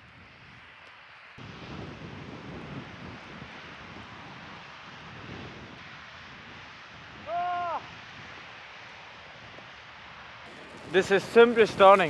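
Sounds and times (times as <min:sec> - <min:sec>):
snowstorm wind rushing: 0:00.0 - 0:12.0.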